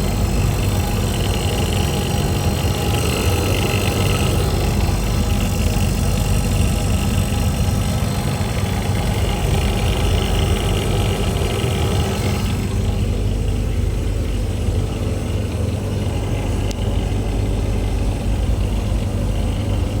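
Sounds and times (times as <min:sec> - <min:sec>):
compressor humming: 0:00.0 - 0:20.0.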